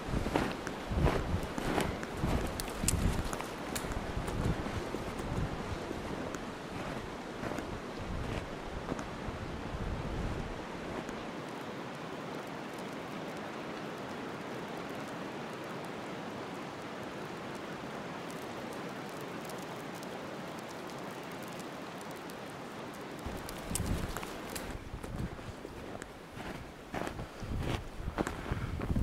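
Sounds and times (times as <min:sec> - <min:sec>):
faint ticks and crackles: 0:00.0 - 0:29.0
steady rushing hiss: 0:00.0 - 0:29.0.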